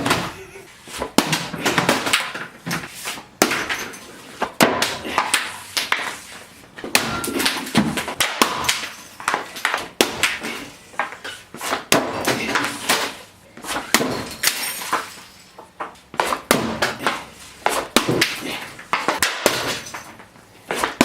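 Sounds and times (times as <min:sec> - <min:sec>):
hockey sticks scraping: 0:00.0 - 0:21.0.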